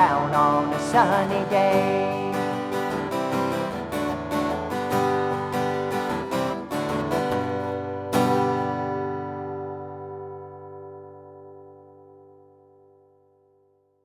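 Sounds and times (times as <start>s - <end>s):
acoustic guitar strumming: 0.0s - 13.6s.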